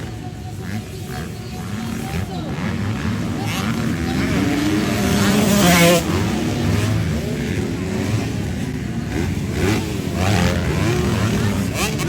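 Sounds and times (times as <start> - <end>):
motocross motorcycle engines revving: 0.0 - 12.0.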